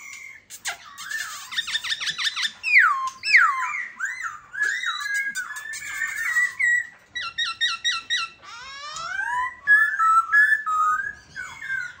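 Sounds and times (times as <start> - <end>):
bird singing whistled notes: 0.9 - 12.0.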